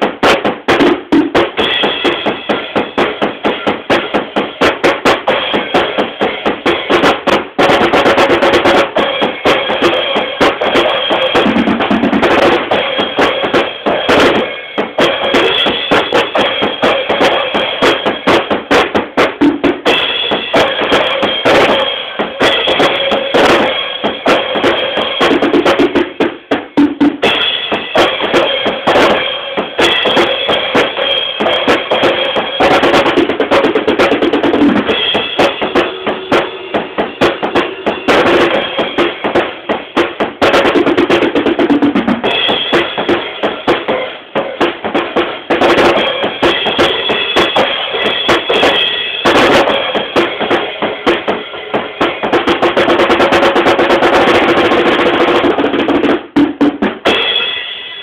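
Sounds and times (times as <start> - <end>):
acoustic drum kit playing: 0.0 - 58.0.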